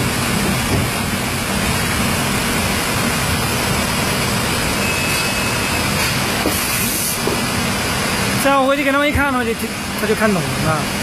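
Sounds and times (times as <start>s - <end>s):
machine hum with hiss: 0.0s - 11.0s.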